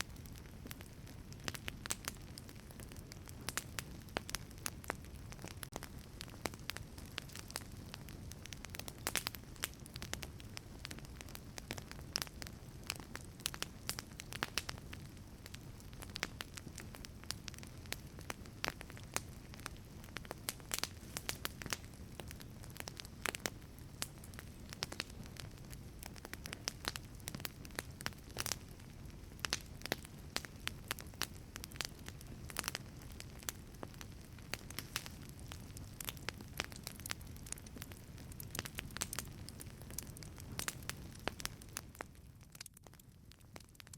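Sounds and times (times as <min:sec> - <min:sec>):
low roar of flames: 0:00.0 - 0:43.9
wood fire crackling and popping: 0:00.0 - 0:43.9.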